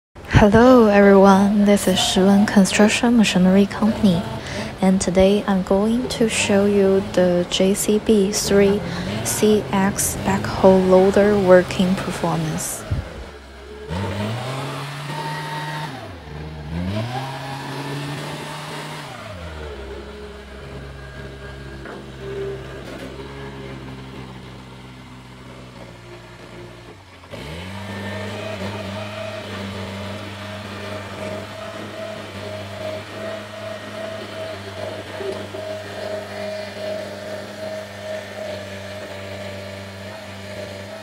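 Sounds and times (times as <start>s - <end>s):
diesel engine running: 0.2s - 41.0s
hydraulic loader arm working: 0.2s - 41.0s.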